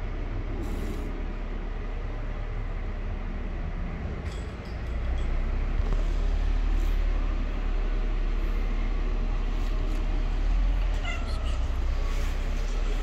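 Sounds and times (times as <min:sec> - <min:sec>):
road traffic rumble: 0:00.0 - 0:13.0
vehicle engine running nearby: 0:00.0 - 0:13.0.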